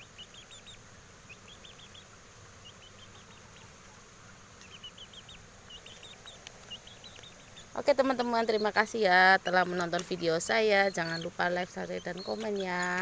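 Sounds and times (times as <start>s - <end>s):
faint high-pitched chirping: 0.0s - 13.0s.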